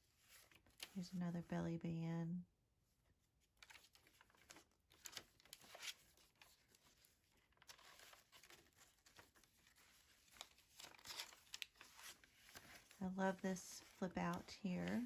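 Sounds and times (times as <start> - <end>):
paper pages rustling: 0.0 - 1.1, 3.5 - 15.0.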